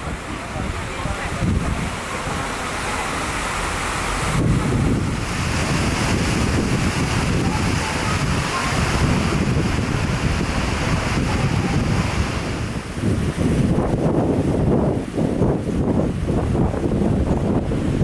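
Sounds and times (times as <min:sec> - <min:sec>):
sea waves washing: 0:00.0 - 0:18.0
wind buffeting microphone: 0:00.0 - 0:18.0.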